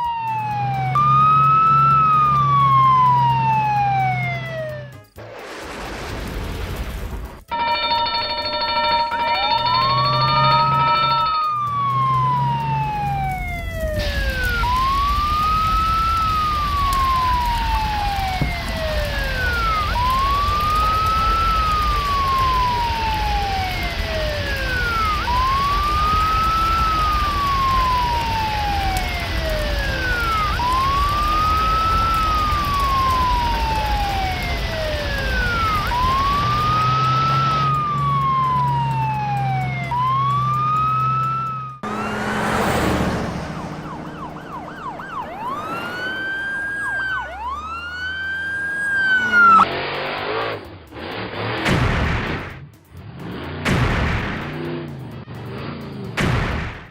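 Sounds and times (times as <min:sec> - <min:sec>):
fire truck siren wailing: 0:00.0 - 0:05.2, 0:07.4 - 0:51.2
rushing vehicle noise: 0:00.0 - 0:56.9.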